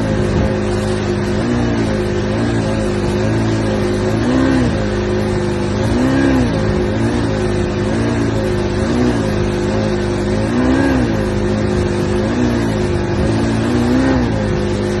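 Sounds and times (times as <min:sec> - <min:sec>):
outboard motor running unevenly: 0:00.0 - 0:15.0.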